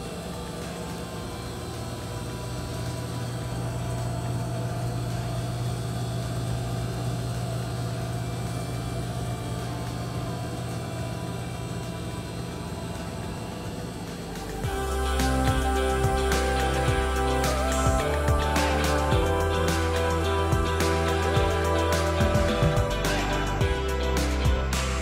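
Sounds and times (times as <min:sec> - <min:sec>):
refrigeration unit humming: 0:00.0 - 0:25.0.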